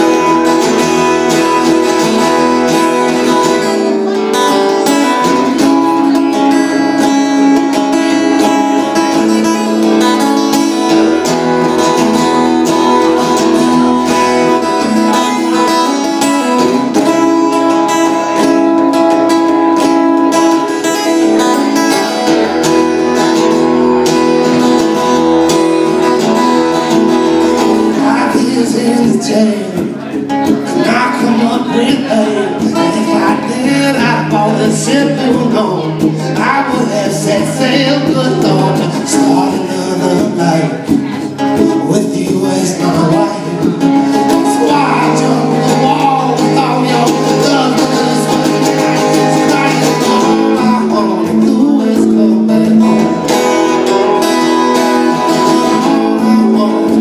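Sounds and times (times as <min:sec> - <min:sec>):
acoustic guitar strummed and picked: 0:00.0 - 0:57.0.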